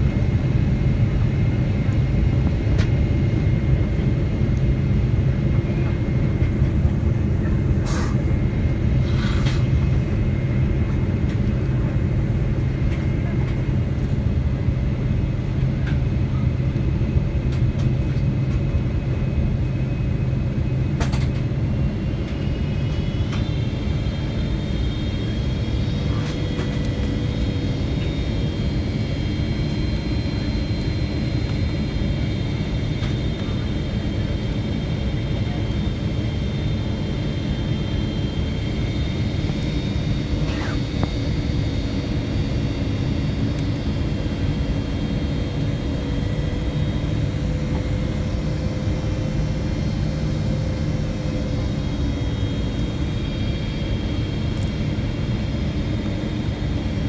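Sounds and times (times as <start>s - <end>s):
high multi-tone whine: 0.0s - 57.0s
jet engines humming: 0.0s - 57.0s.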